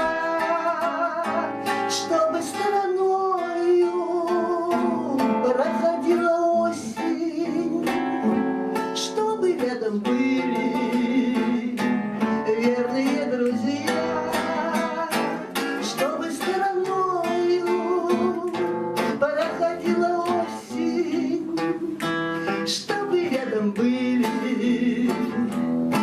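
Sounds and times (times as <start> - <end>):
acoustic guitar strumming: 0.0 - 26.0
person singing: 0.0 - 26.0.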